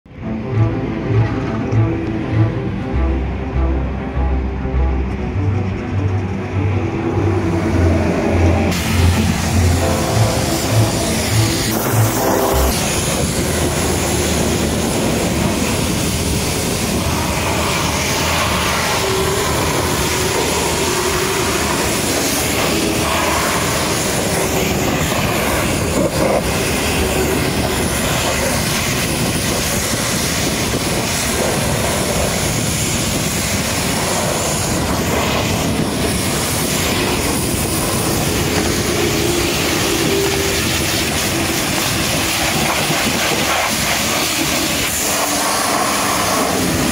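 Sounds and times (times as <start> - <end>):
pressure washer spraying metal: 8.7 - 46.9.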